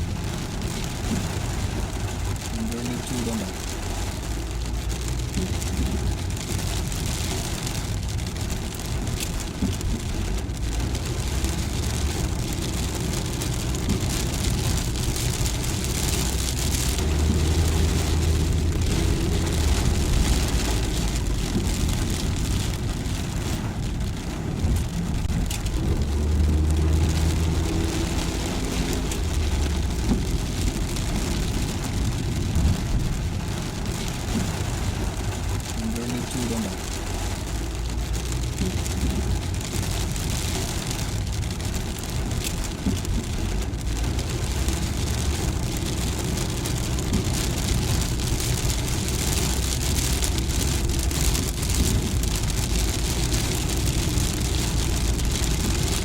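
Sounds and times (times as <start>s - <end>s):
car engine and road rumble: 0.0s - 56.0s
rain hissing: 0.0s - 56.0s
raindrops ticking: 0.0s - 56.0s.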